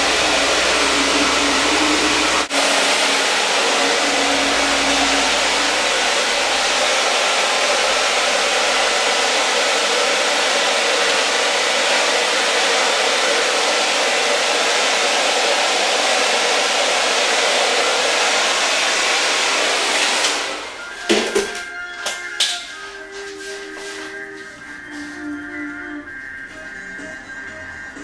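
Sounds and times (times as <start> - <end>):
hair dryer blowing: 0.0 - 26.2.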